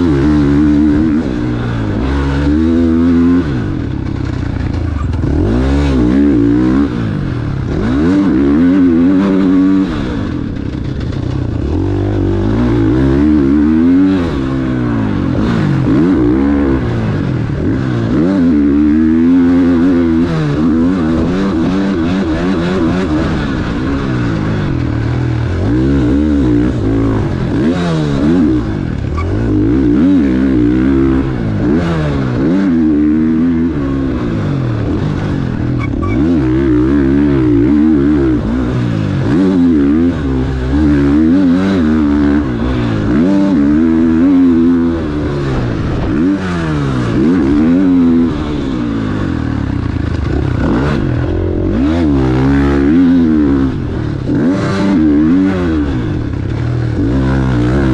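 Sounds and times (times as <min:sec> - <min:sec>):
motocross engine revving: 0:00.0 - 0:57.9.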